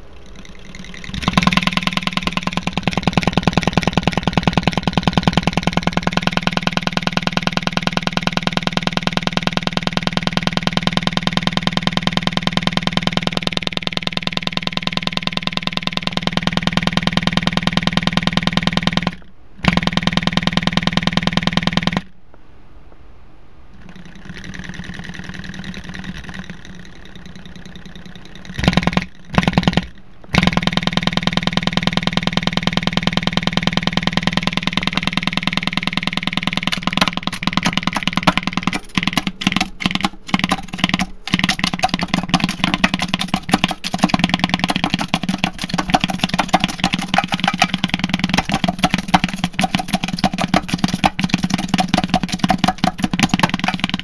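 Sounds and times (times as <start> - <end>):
distorted speaker buzz: 0.0 - 22.2, 22.8 - 54.0.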